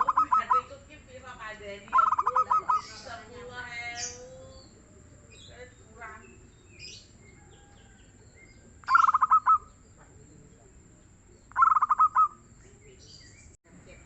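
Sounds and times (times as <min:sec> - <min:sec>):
dove cooing: 0:00.0 - 0:00.8, 0:01.9 - 0:12.6.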